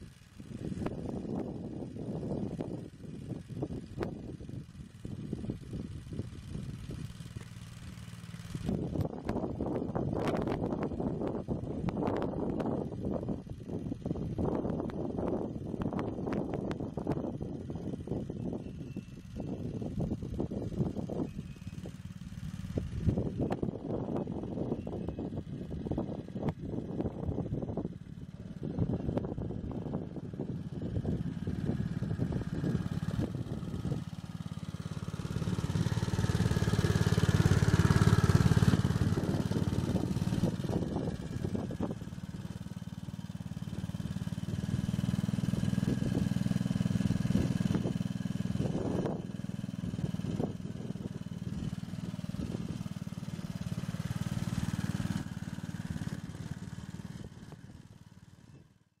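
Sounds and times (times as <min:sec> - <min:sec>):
wheels clicking and rattling: 0:00.0 - 0:24.0, 0:26.4 - 0:57.7.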